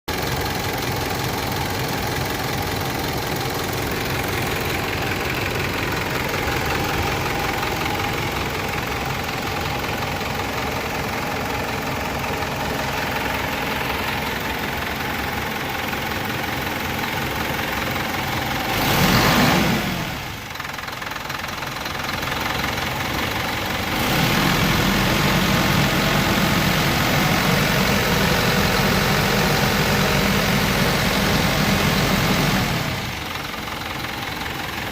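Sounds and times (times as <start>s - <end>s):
diesel engine knocking clatter: 0.1s - 34.9s.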